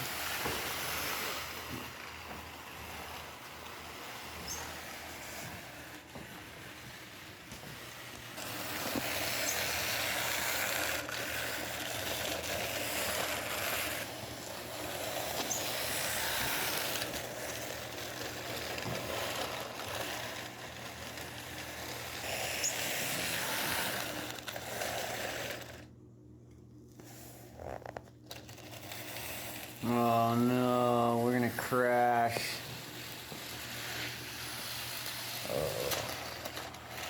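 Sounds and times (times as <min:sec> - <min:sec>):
model train motor whirring: 0:00.0 - 0:25.9, 0:27.0 - 0:37.0.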